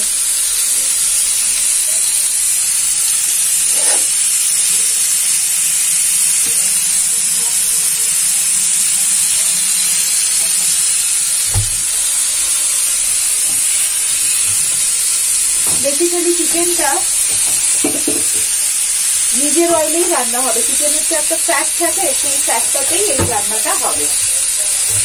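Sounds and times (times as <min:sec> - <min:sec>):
chicken sizzling in frying pan: 0:00.0 - 0:25.0.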